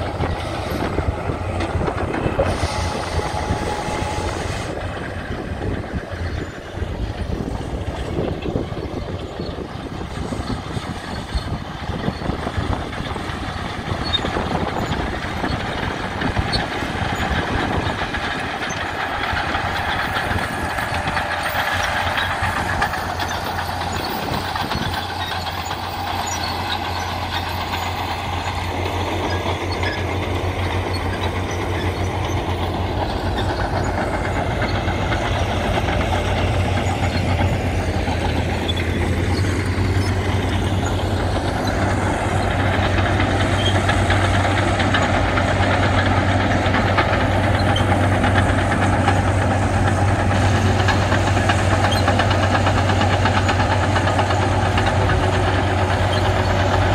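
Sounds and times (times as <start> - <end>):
diesel dozer engine under load: 0.0 - 56.9
steel tracks clanking: 0.0 - 56.9.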